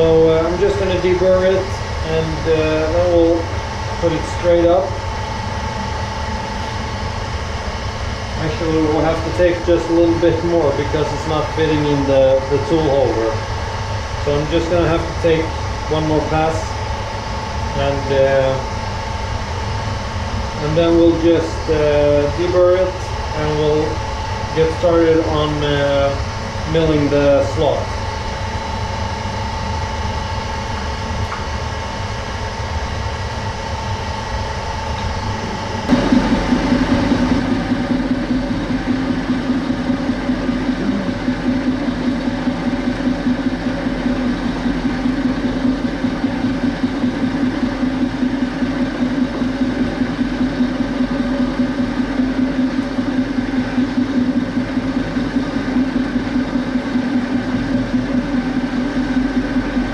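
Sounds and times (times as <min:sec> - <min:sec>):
fly cutter rough pulsing: 0:00.0 - 0:59.9
metal lathe running: 0:00.0 - 0:59.9.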